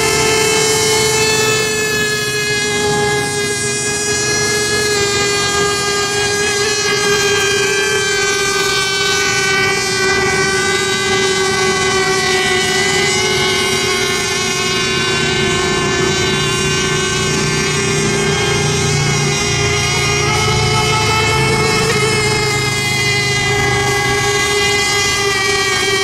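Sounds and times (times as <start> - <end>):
model boat motors whining: 0.0 - 26.0.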